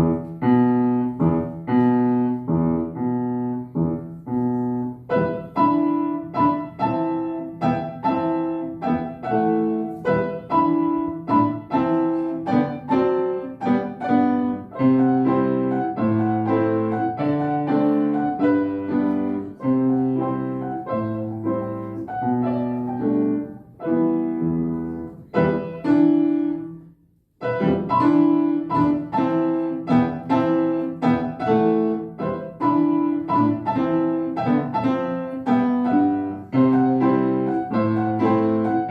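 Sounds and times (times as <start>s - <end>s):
solo piano piece: 0.0s - 38.9s.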